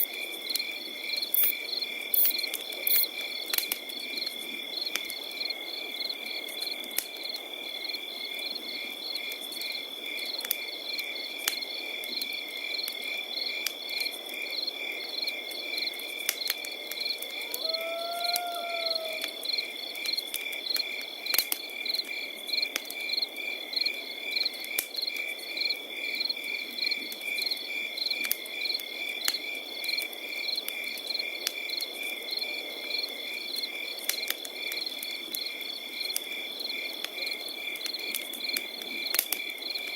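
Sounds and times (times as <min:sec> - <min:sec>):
campfire crackling and popping: 0:00.0 - 0:32.2, 0:33.2 - 0:39.9
crickets chirping: 0:00.0 - 0:39.9.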